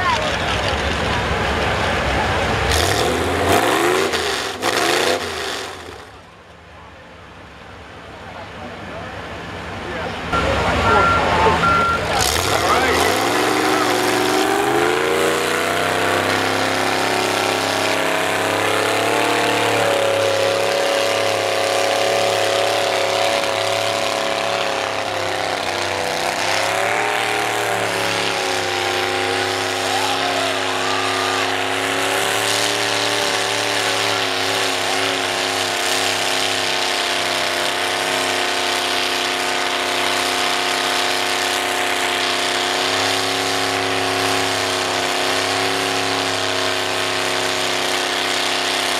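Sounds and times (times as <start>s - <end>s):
truck engine revving hard: 0.0s - 6.4s, 9.2s - 48.9s.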